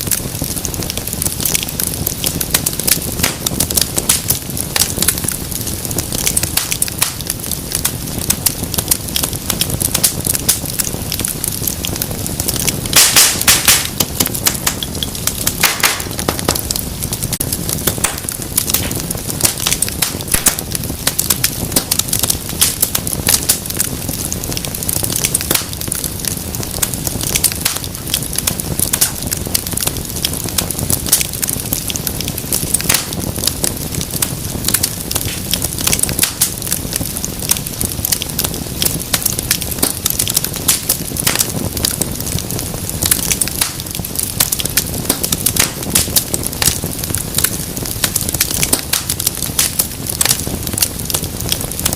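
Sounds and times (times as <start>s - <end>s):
flames rumbling: 0.0s - 51.9s
wood fire crackling and popping: 0.0s - 51.9s.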